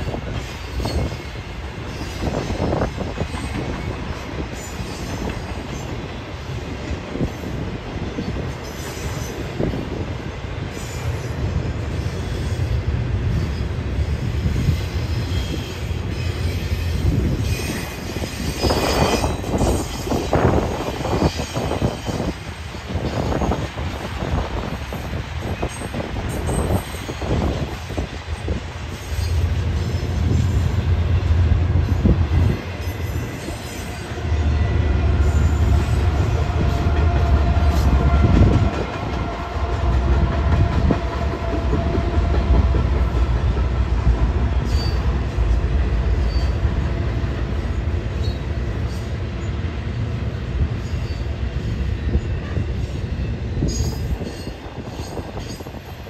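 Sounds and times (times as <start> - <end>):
diesel locomotive engines rumbling: 0.0 - 56.0
train wheels on rails: 0.0 - 56.0.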